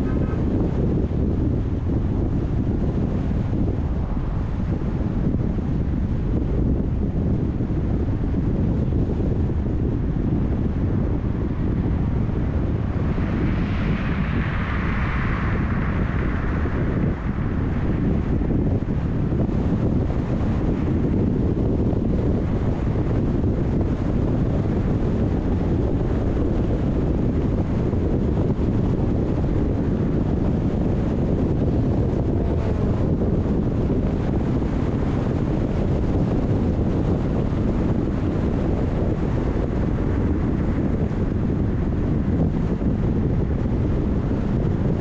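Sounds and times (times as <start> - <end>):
tyre road and wind noise: 0.0 - 45.0.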